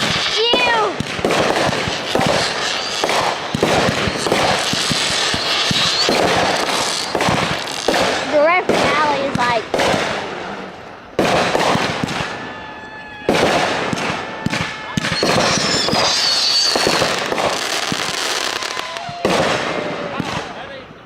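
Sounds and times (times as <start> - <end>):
fireworks bangs: 0.0 - 21.0
fireworks crackling: 0.0 - 21.0
fireworks whistling: 0.0 - 21.0.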